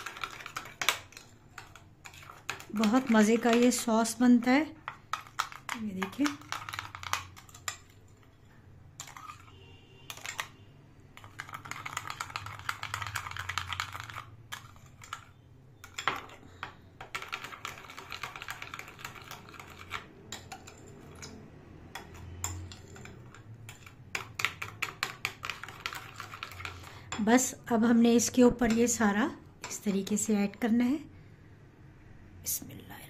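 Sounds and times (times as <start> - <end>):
metal spoon scraping glass bowl: 0.0 - 8.2, 9.0 - 30.4.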